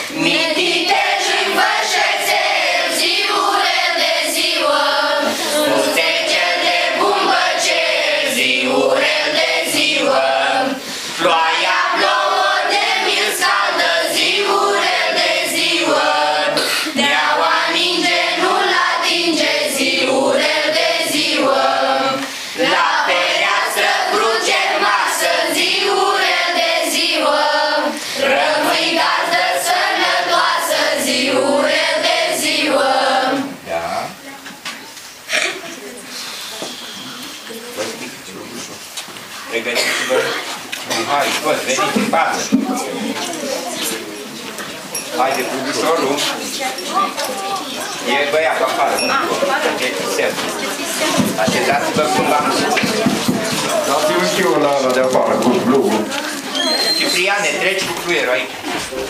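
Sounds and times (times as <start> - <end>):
children's choir singing a carol: 0.0 - 34.0, 39.5 - 59.0.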